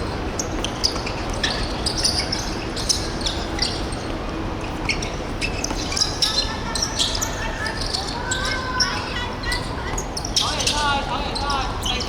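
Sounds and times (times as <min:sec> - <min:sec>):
shoes squeaking on hall floor: 0:00.0 - 0:12.0
sports hall background: 0:00.0 - 0:12.0.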